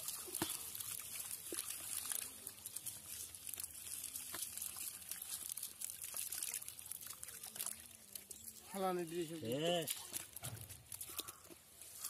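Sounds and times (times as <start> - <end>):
fishing net crackling and rustling: 0.0 - 7.8, 8.6 - 12.0.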